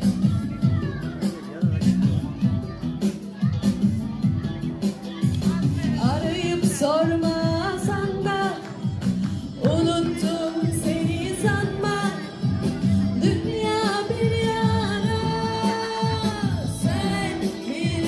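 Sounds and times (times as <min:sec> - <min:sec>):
pop song with singing: 0:03.4 - 0:18.0.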